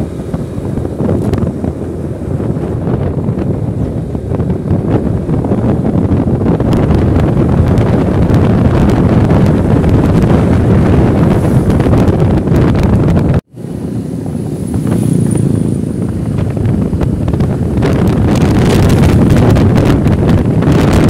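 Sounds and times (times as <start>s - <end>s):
scooter engine and road noise: 0.0s - 21.0s
wind buffeting microphone: 0.0s - 21.0s.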